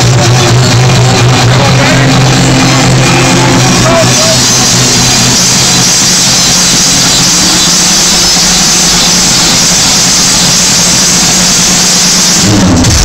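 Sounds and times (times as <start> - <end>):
distorted noise over low drone: 0.0 - 13.0.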